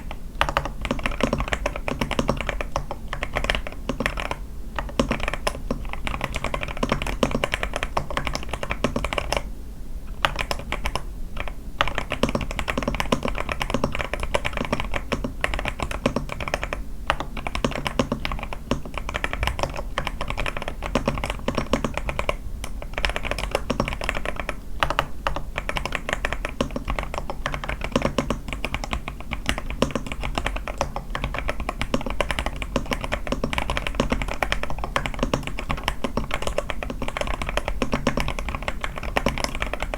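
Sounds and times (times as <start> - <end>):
mechanical keyboard typing: 0.0 - 9.5, 10.2 - 39.9.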